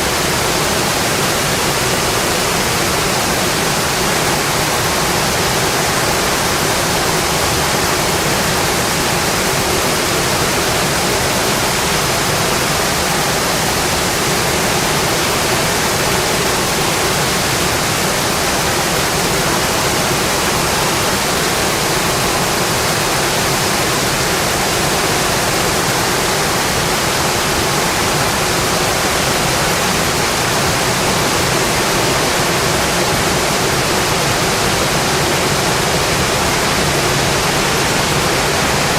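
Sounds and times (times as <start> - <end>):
steady dense rainfall: 0.0 - 38.9.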